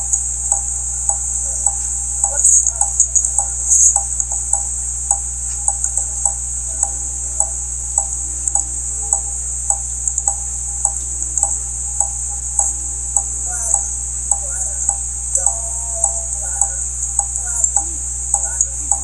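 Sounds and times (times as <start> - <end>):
high-pitched white noise hiss: 0.0 - 19.0
low hum: 0.0 - 19.0
steady ticking: 0.0 - 19.0.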